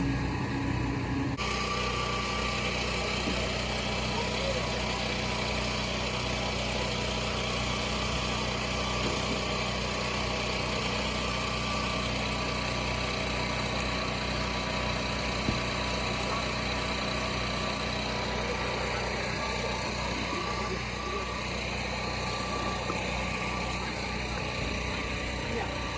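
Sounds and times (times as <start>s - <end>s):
generator engines humming: 0.0s - 25.9s.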